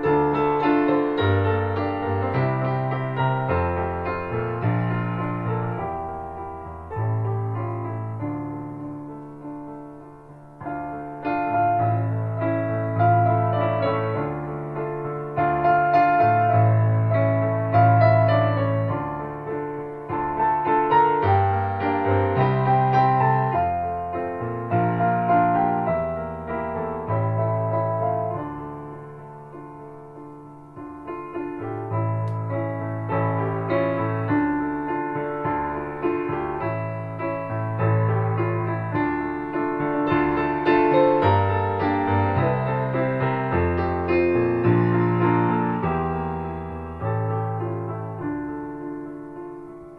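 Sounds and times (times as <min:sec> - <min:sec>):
soft piano music: 0:00.0 - 0:49.9.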